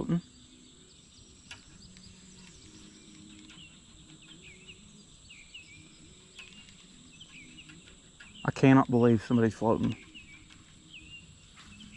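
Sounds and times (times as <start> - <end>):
high insect drone: 0.0 - 11.9
small birds chirping: 0.0 - 11.9.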